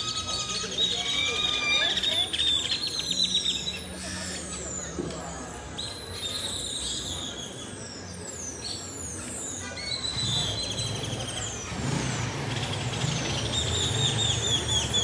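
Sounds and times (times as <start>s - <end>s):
birds chirping: 0.0s - 15.0s
street noise: 0.0s - 15.0s.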